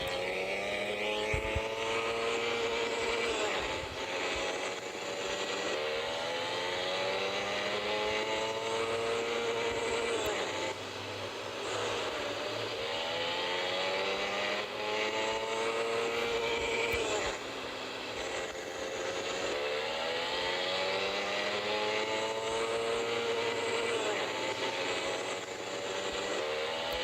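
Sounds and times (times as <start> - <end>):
motorcycle engine at full throttle: 0.0 - 27.0.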